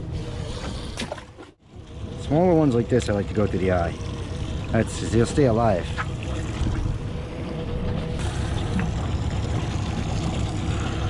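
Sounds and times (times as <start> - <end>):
boat motor droning: 1.6 - 11.0.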